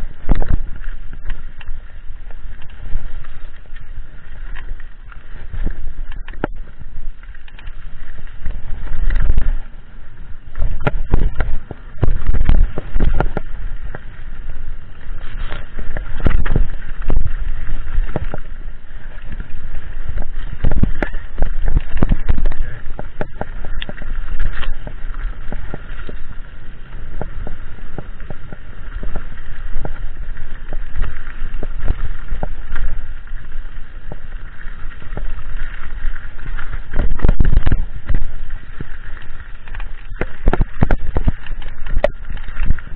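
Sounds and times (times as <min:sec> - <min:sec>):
low rumble: 0:00.0 - 0:42.9.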